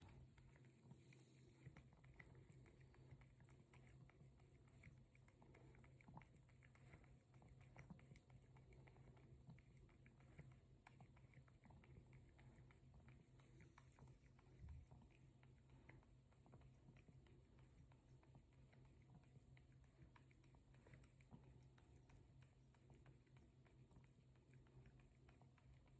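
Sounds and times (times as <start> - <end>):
cat lapping water: 0.0 - 25.9.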